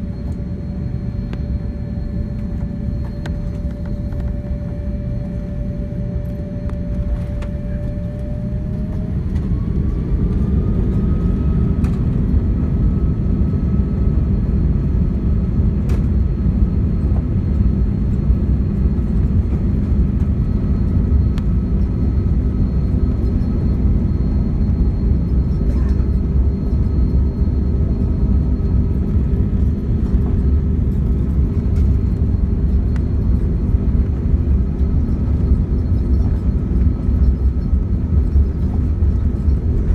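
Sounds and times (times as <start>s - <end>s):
heavy engine rumble: 0.0s - 13.1s, 17.0s - 39.9s
jet engine whine: 0.0s - 39.9s.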